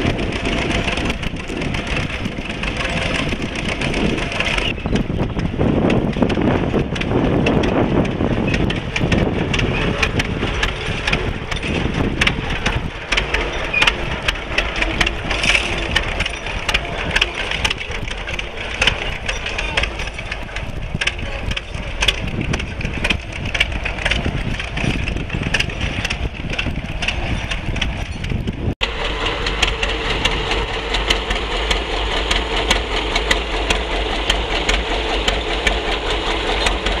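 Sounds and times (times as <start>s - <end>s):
knocks and clatter: 0.0s - 37.0s
tractor engines running: 0.0s - 37.0s.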